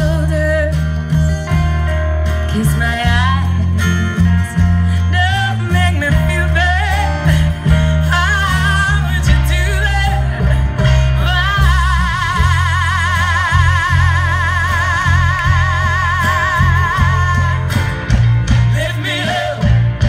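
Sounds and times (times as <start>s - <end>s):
heavy steady bass: 0.0s - 20.0s
sliding lead melody with vibrato: 0.0s - 20.0s
strummed acoustic guitars: 0.0s - 20.0s.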